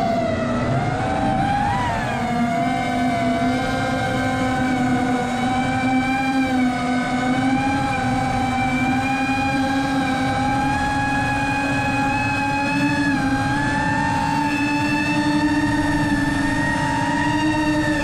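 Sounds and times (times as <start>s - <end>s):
model aircraft electric motors whining: 0.0s - 18.0s.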